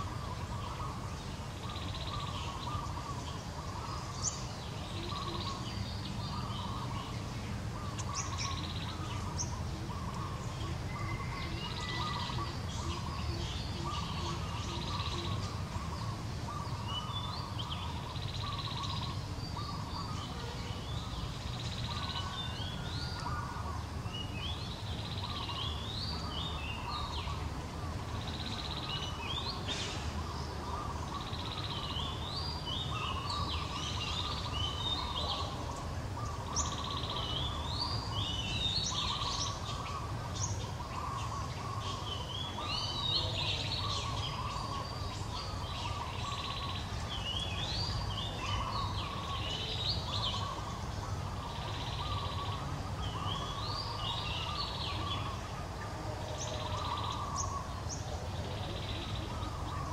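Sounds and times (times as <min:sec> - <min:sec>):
low background noise: 0:00.0 - 0:59.9
songbird chirping: 0:00.0 - 0:59.9.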